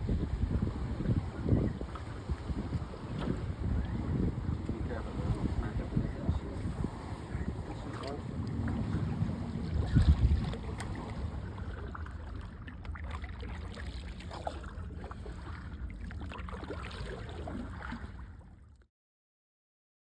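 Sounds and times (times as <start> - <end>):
wind rumbling on microphone: 0.0 - 18.5.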